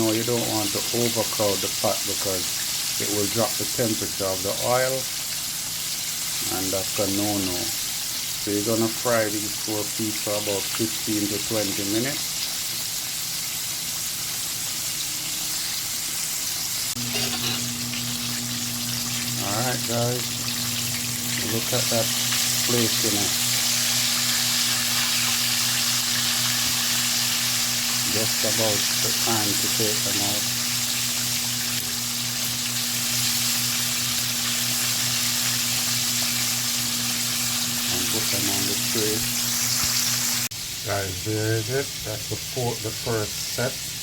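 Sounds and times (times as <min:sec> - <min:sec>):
chicken sizzling in hot oil: 0:00.0 - 0:44.0.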